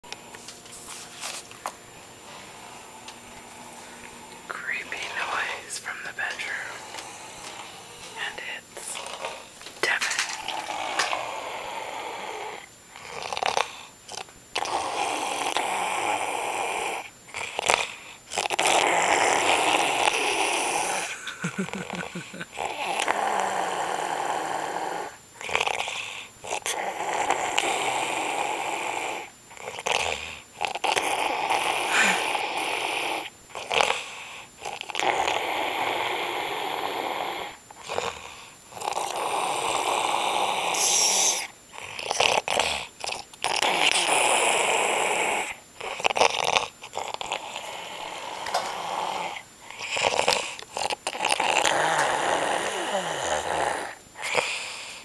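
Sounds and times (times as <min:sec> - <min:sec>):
person snoring: 0:04.6 - 0:55.0.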